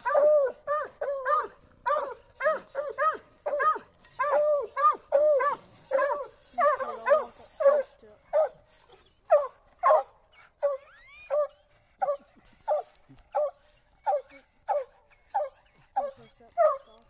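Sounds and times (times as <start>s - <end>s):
dogs barking: 0.0s - 8.6s, 9.3s - 17.0s.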